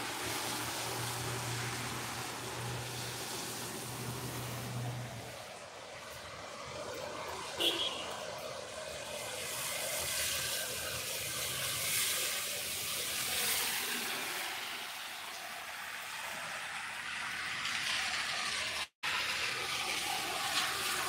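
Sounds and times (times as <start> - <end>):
car tyres on wet road: 0.0 - 21.0
rain hissing: 0.0 - 21.0.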